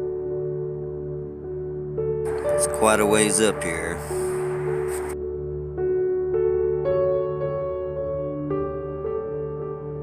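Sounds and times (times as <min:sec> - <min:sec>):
calm piano-like notes: 0:00.0 - 0:10.0
steady low drone: 0:00.1 - 0:09.9.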